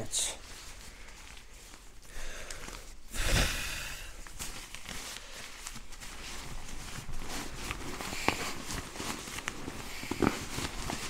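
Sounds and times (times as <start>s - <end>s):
nylon crinkling and rustling: 0.0s - 11.0s.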